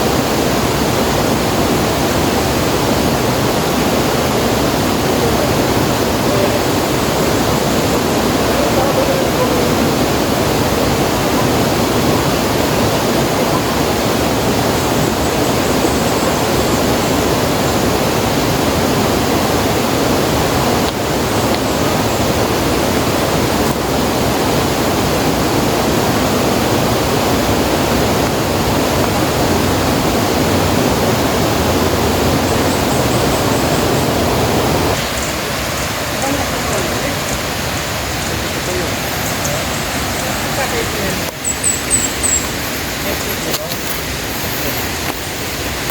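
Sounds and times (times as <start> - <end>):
loud steady rushing noise: 0.0 - 45.9.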